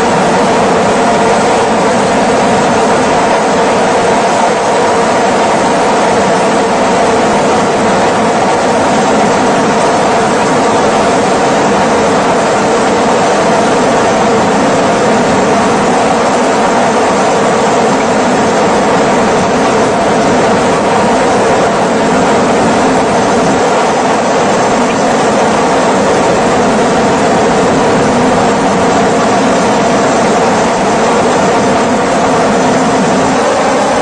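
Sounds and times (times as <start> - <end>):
helicopter engine and rotor drone: 0.0 - 34.0.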